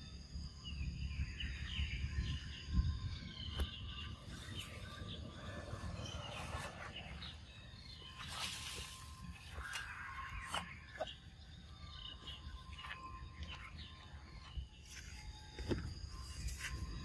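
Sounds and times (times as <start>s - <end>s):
high insect drone: 0.0s - 17.0s
short chirping calls: 0.0s - 17.0s.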